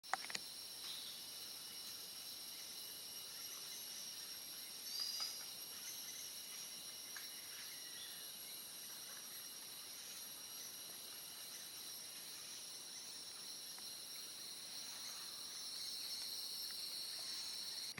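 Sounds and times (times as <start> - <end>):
insects chirping: 0.0 - 17.9.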